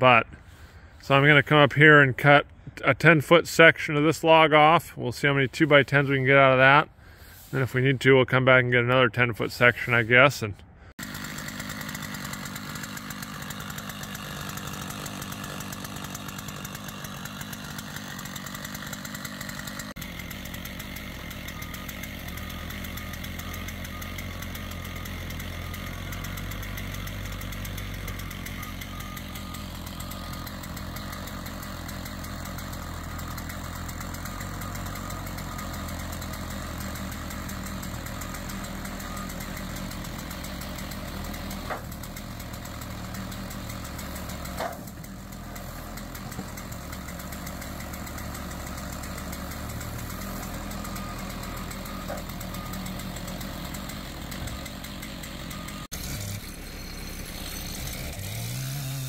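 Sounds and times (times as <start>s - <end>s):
backhoe engine humming: 0.0s - 59.0s
chainsaw cutting log: 5.3s - 7.6s, 10.7s - 59.0s.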